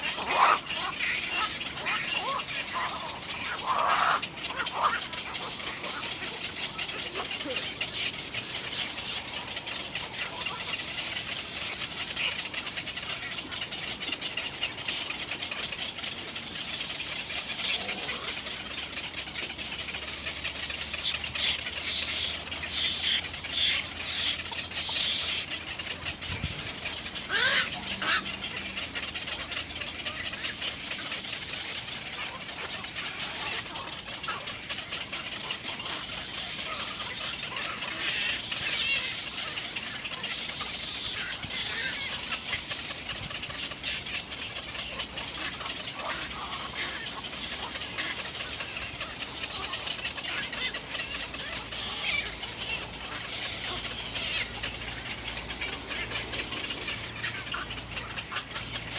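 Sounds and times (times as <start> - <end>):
birds calling: 0.0 - 58.9.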